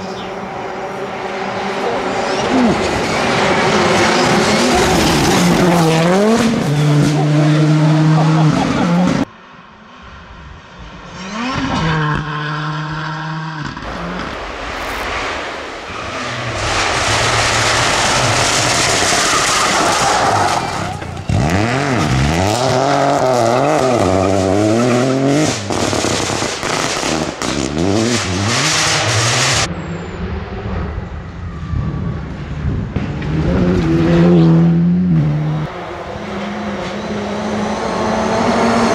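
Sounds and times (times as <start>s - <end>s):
rally car engines revving: 0.0s - 9.3s, 10.6s - 31.4s, 32.3s - 38.9s
distant car engine: 0.0s - 38.9s
tyre and road noise: 0.0s - 38.9s.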